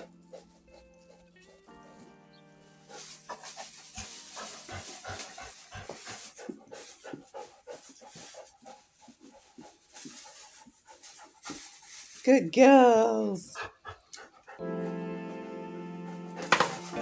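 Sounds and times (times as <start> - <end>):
dog panting: 0.0 - 12.2, 13.4 - 15.0.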